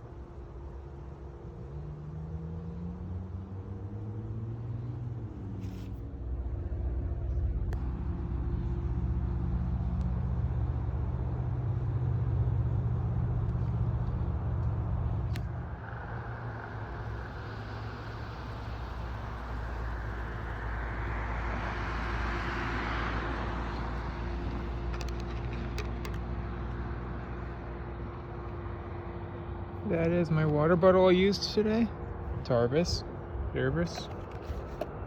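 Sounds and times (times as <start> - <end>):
traffic rumble: 0.0 - 35.0
vehicle passing: 1.7 - 35.0.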